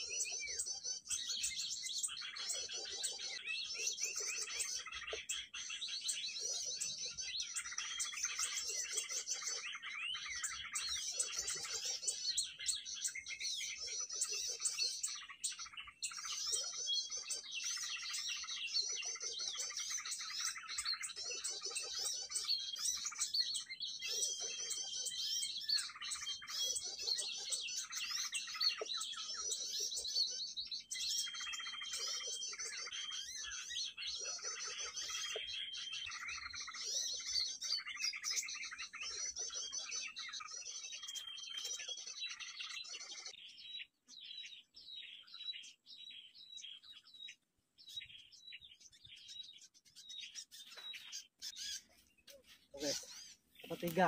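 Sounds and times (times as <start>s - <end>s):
low pulsing bird call: 0.0s - 52.1s
small birds chirping: 0.0s - 54.0s.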